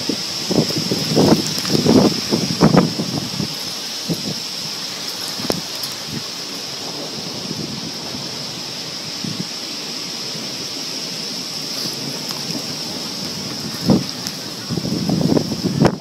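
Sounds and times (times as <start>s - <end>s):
high wind rushing: 0.0s - 16.0s.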